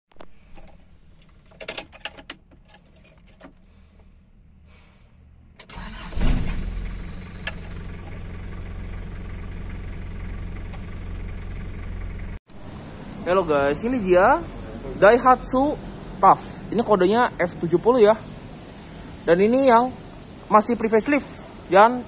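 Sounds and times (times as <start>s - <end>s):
diesel engine cranking and idling: 0.3s - 22.0s.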